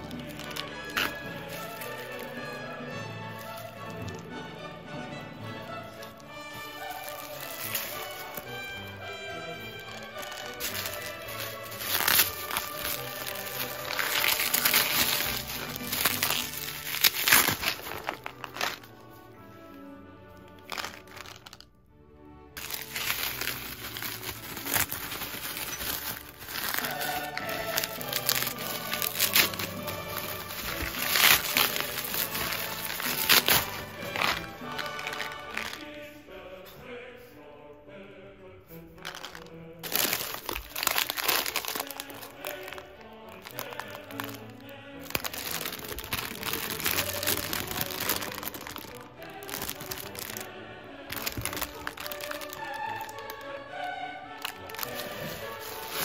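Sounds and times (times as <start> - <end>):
bubble wrap crinkling: 0.0 - 4.3, 5.6 - 19.4, 20.3 - 21.7, 22.6 - 36.0, 39.0 - 53.6, 54.3 - 56.0
background music: 0.0 - 56.0.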